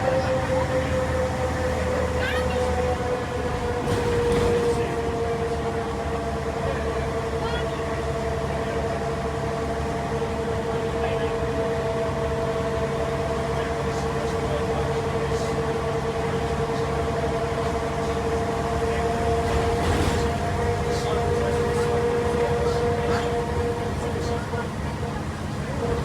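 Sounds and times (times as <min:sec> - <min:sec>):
bus diesel engine drone: 0:00.0 - 0:26.0
steady engine whine: 0:00.0 - 0:26.0.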